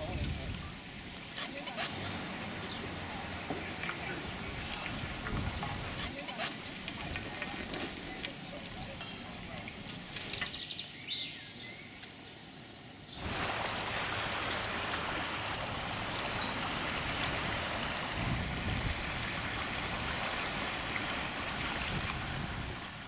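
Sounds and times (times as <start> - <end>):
small waves lapping on stones: 0.0 - 10.6, 13.2 - 23.0.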